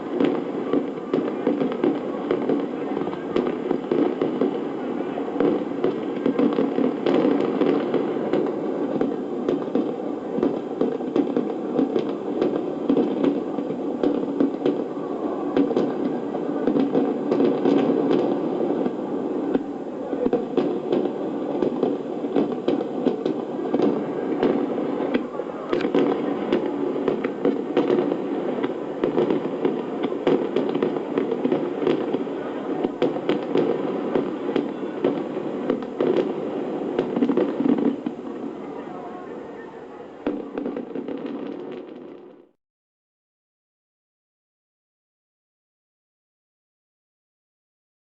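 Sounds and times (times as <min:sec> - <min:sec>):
fireworks bursting and crackling: 0:00.0 - 0:42.6.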